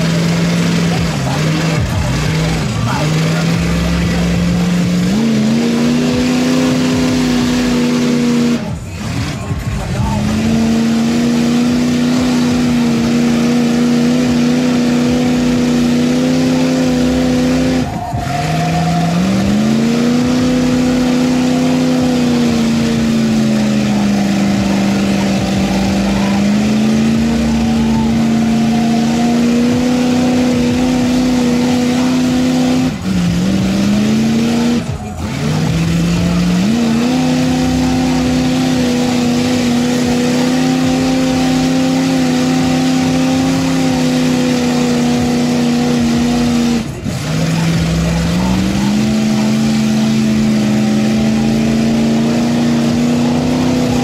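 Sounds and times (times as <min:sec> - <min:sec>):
truck engine at high revs: 0:00.0 - 0:54.0
tyres churning through mud: 0:00.0 - 0:54.0.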